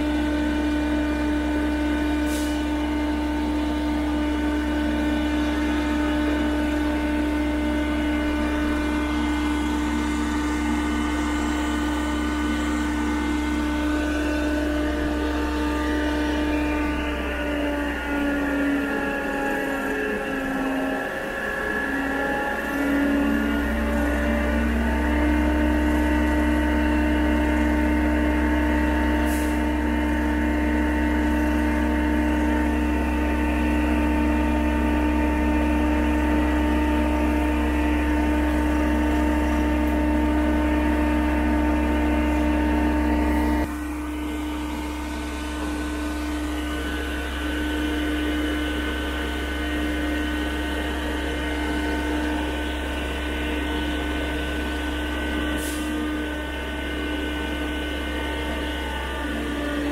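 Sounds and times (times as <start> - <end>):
low hum: 0.0 - 59.9
pump mechanical whine: 0.0 - 59.9.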